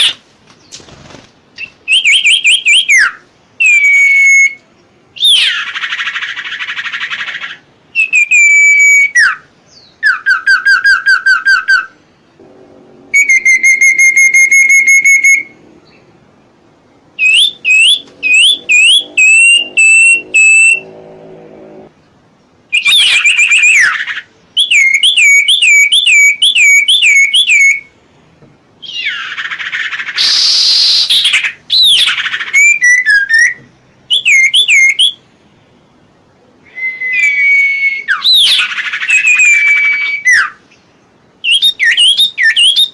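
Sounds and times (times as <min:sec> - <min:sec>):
songbird singing whistles and trills: 0:01.6 - 0:12.0, 0:13.2 - 0:16.1, 0:17.1 - 0:20.9, 0:22.7 - 0:27.9, 0:28.8 - 0:35.3, 0:36.6 - 0:42.9.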